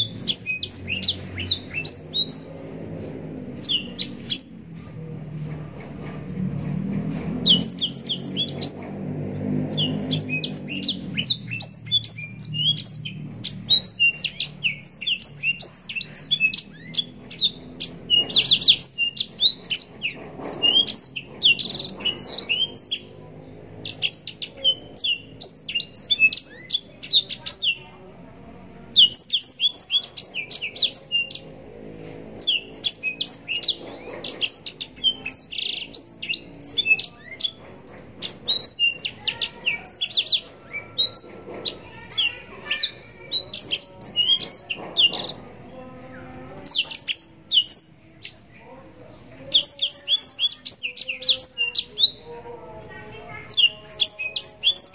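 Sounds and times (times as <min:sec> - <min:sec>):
bird singing rapid chirps and trills: 0:00.0 - 0:04.8, 0:07.0 - 0:54.9.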